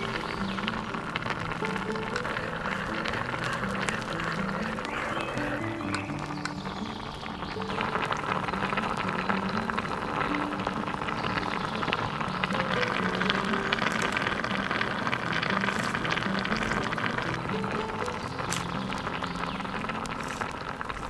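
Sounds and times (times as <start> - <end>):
broth bubbling at a boil: 0.0 - 21.0
soft background music: 0.0 - 21.0.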